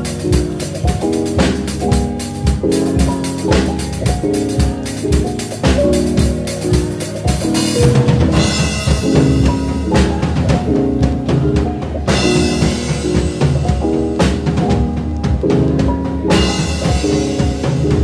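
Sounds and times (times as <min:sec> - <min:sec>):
backing music track: 0:00.0 - 0:18.0
snare and bass drum hits: 0:00.0 - 0:18.0.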